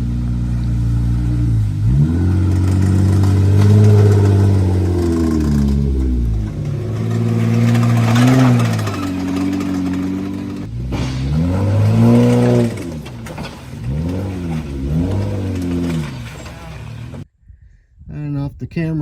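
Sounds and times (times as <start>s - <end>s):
engine revving: 0.0s - 17.2s.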